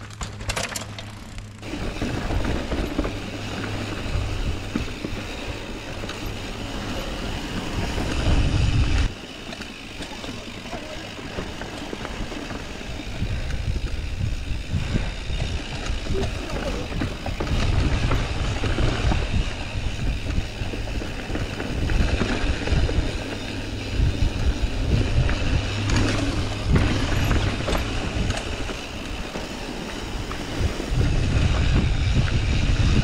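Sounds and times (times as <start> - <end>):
bike rattling and knocking: 0.0 - 33.0
bike tyres rolling on dirt: 0.0 - 33.0
wind rumble on microphone: 1.6 - 9.2, 11.4 - 33.0.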